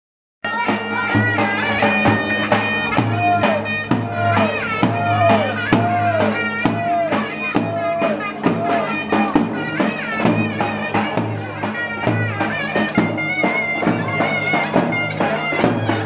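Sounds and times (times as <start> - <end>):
shawm playing folk melody: 0.4 - 16.0.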